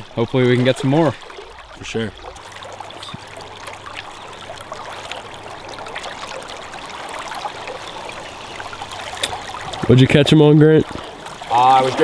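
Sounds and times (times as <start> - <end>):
stream rippling over riffle: 0.0 - 12.0.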